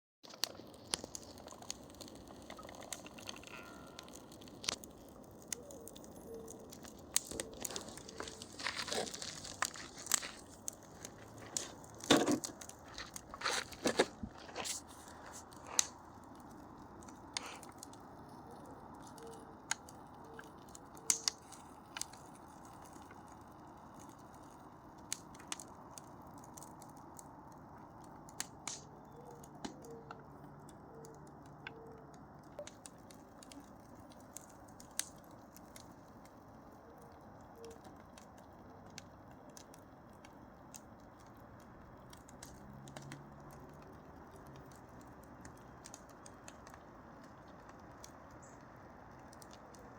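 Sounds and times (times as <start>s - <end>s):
wood fire crackling: 0.2s - 49.9s.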